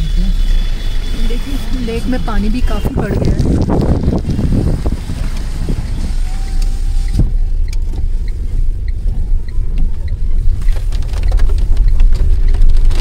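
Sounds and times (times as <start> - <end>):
car engine rumble: 0.0 - 13.0
tyres on wet road: 0.0 - 13.0.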